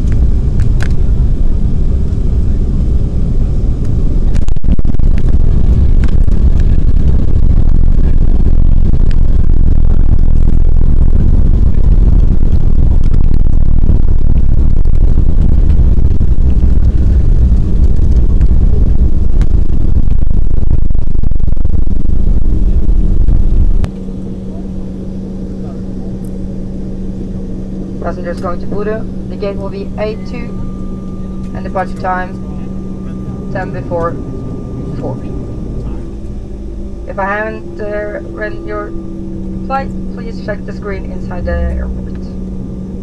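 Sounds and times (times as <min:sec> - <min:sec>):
jet airliner cabin roar: 0:00.0 - 0:43.0.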